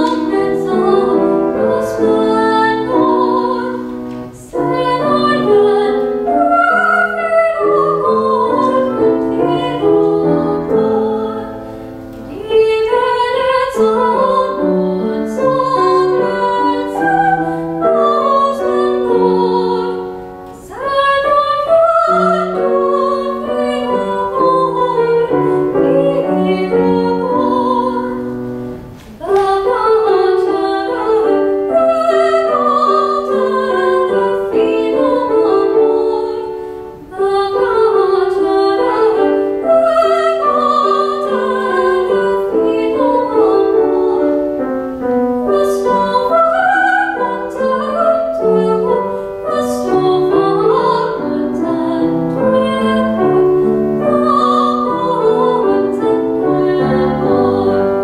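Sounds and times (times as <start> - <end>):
woman singing operatically: 0.0 - 11.6, 12.3 - 28.4, 29.1 - 44.5, 45.4 - 58.0
grand piano accompaniment: 0.0 - 58.0.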